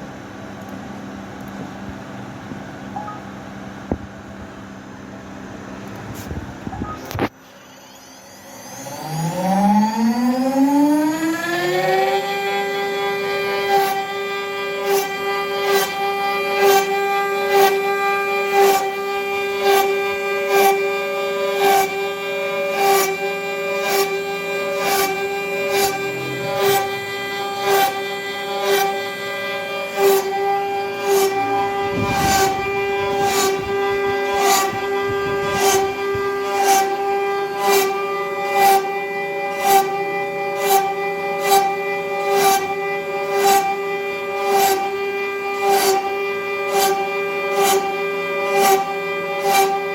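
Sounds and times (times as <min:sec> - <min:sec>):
router spindle high whine: 0:00.0 - 0:49.9.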